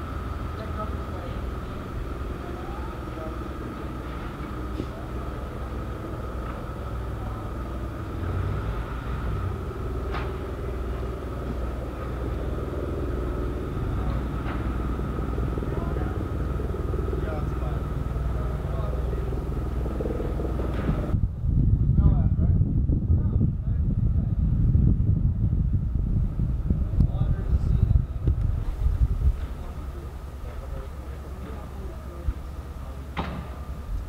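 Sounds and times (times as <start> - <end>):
low outdoor rumble: 0.0 - 34.0
thin steady whine: 0.0 - 34.0.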